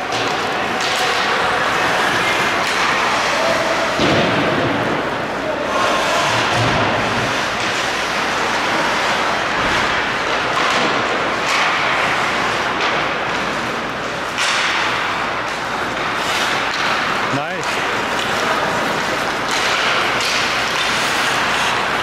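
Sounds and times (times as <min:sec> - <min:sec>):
hockey sticks and puck knocking: 0:00.0 - 0:05.2, 0:06.2 - 0:22.0
arena noise: 0:00.0 - 0:22.0
skates cutting ice: 0:00.0 - 0:22.0.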